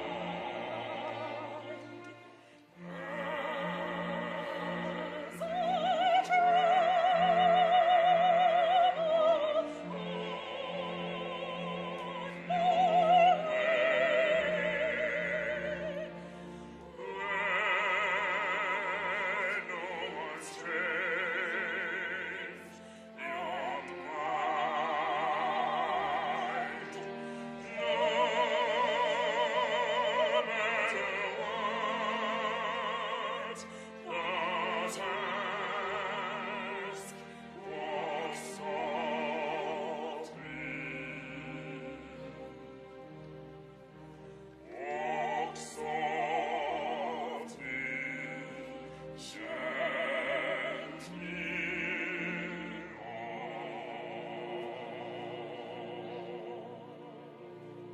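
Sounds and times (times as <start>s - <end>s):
operatic singing: 0.0s - 57.9s
sustained instrumental accompaniment: 0.0s - 57.9s.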